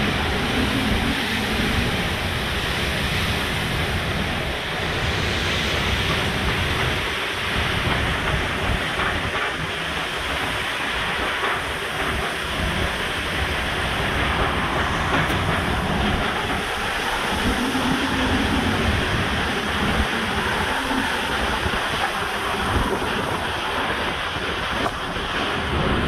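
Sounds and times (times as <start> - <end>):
driving rain: 0.0 - 26.0
wind buffeting microphone: 0.0 - 26.0
wind rushing through trees: 0.0 - 26.0.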